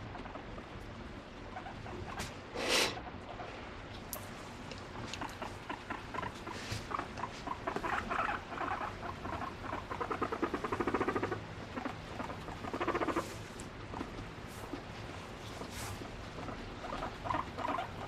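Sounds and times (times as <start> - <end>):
guinea pig purring: 0.0 - 18.0.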